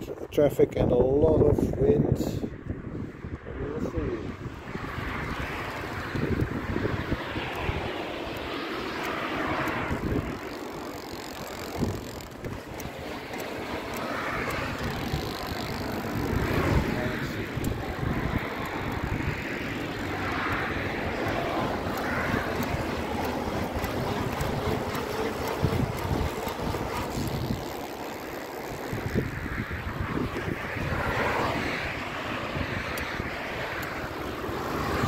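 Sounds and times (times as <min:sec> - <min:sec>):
bicycle gear hub whirring: 0:00.0 - 0:35.0
passing road traffic: 0:00.0 - 0:35.0
wind buffeting microphone: 0:00.0 - 0:35.0.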